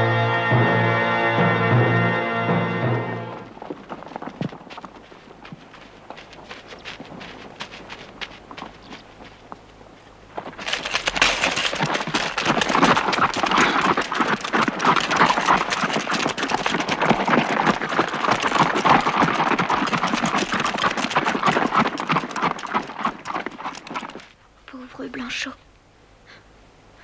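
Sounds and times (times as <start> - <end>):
horse hoofbeats on dry ground: 0.5 - 24.5.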